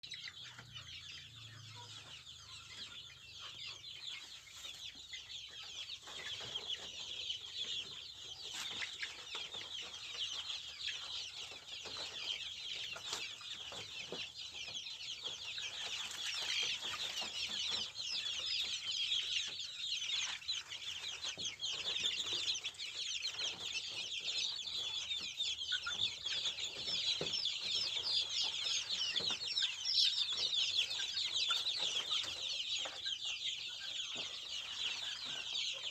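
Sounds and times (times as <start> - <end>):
chicks peeping: 0.0 - 35.9.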